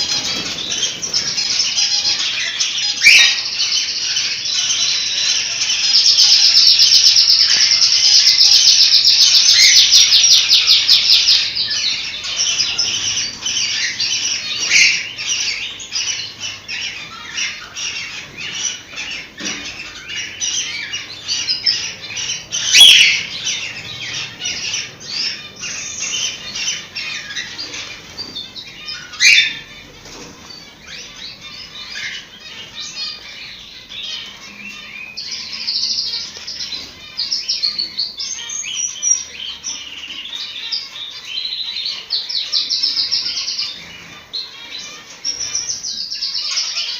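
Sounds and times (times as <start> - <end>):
cockatiels chirping: 0.0 - 46.9
sharp bird calls: 0.0 - 46.9.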